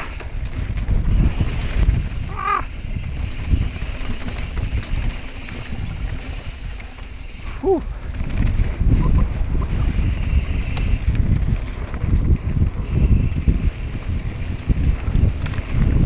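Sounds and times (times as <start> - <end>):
tyres rumbling on dirt: 0.0 - 16.0
wind buffeting microphone: 0.0 - 16.0.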